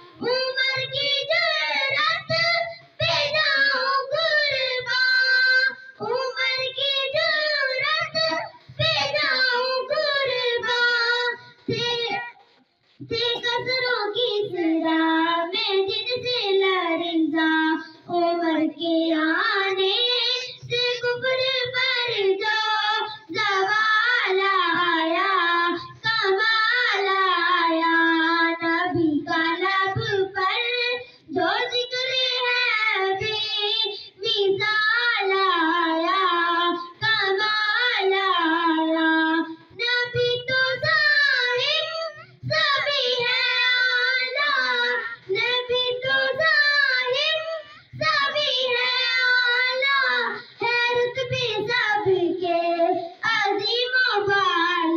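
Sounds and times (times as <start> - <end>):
girl singing unaccompanied: 0.0 - 54.9.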